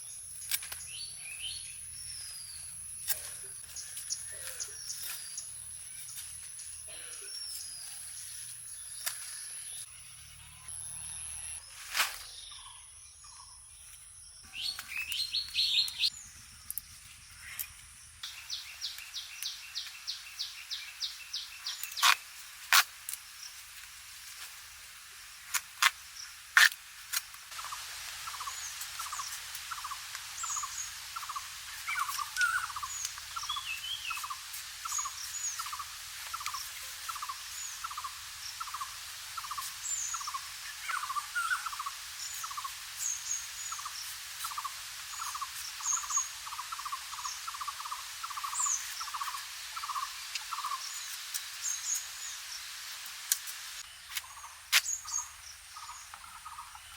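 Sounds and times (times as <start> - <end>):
birds calling and chirping: 0.0 - 11.6, 12.2 - 22.2, 27.5 - 52.8, 53.8 - 56.9.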